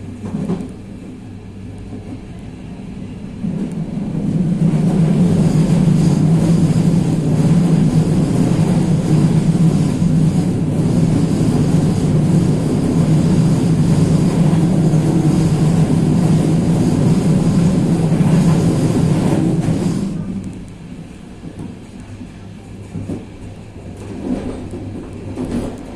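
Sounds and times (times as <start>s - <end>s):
train running with low drone: 0.0s - 25.9s.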